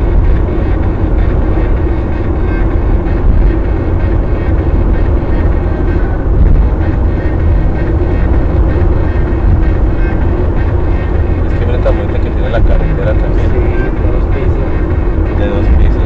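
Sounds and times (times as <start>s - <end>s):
car road noise at highway speed: 0.0s - 16.0s.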